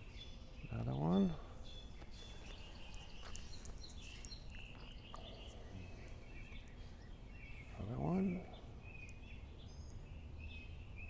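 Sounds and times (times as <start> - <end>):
bird chirps: 0.0 - 10.7.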